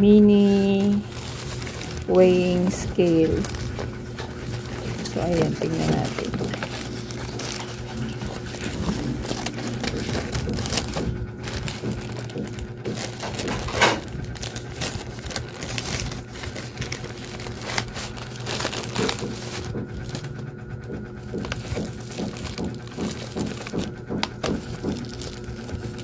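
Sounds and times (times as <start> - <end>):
plastic crinkling and rustling: 0.0 - 26.0
scissors cutting plastic pouch: 0.1 - 26.0.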